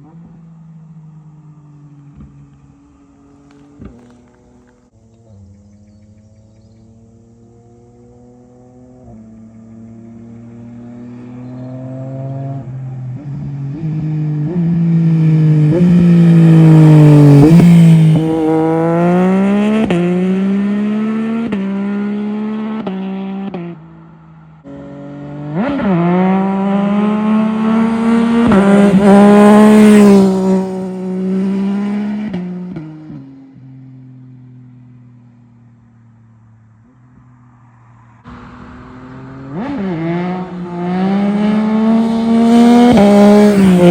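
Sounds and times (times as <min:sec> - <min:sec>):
motorcycle accelerating past: 0:00.0 - 0:43.9.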